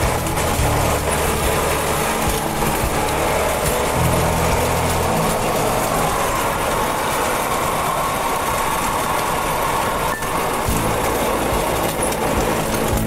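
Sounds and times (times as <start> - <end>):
small vehicle engine running: 0.0 - 13.0.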